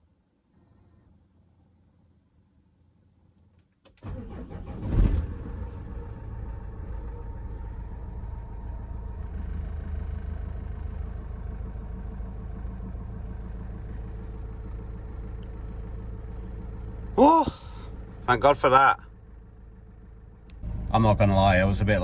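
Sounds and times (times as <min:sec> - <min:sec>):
diesel engine starting and idling: 0:03.9 - 0:22.0.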